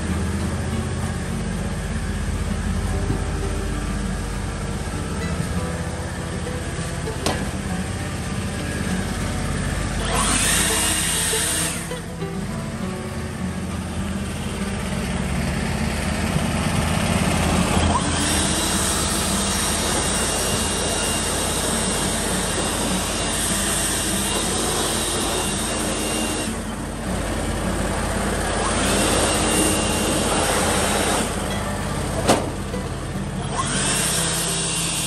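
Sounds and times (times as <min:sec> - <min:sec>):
leaf blower running: 0:00.0 - 0:35.0.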